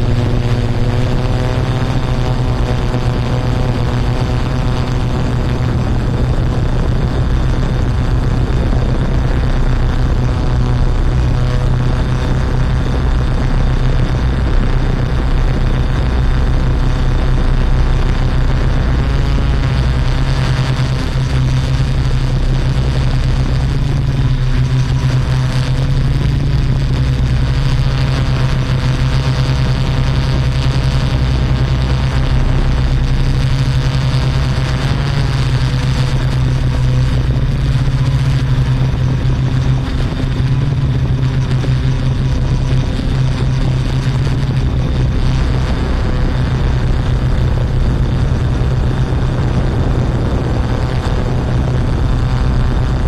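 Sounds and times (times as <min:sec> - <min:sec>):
drone propellers whirring: 0:00.0 - 0:53.0.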